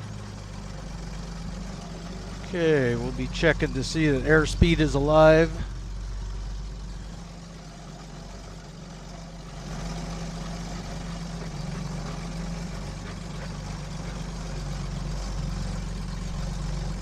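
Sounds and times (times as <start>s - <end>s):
propeller aircraft engine droning: 0.0s - 17.0s.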